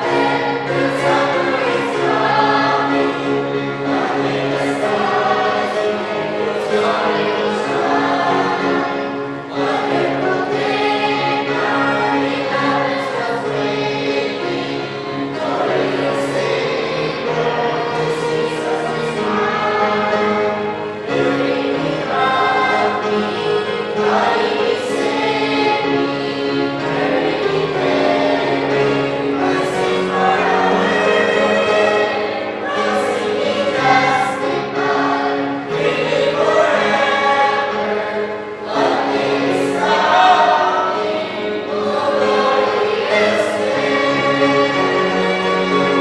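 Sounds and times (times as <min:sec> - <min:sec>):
mixed choir singing a hymn: 0:00.0 - 0:46.0.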